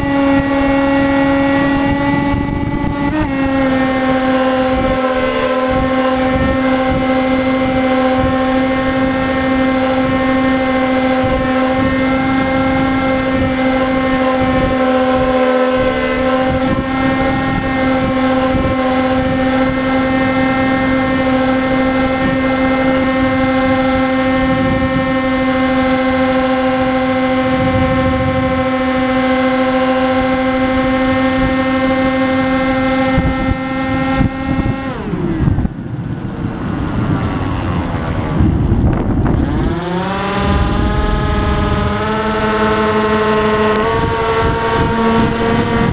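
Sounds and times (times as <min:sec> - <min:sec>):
model plane motor humming: 0:00.0 - 0:45.9
wind buffeting microphone: 0:00.0 - 0:45.9.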